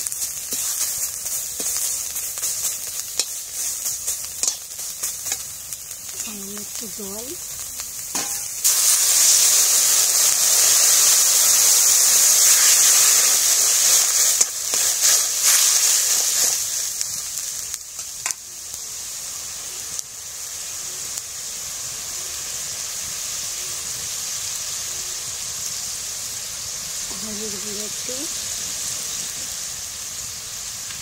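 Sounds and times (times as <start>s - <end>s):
water sizzling in hot oil: 0.0s - 31.0s.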